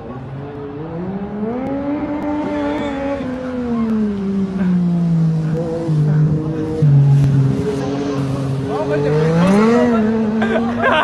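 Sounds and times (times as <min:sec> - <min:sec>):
motorcycle engine running hard: 0:00.0 - 0:11.0.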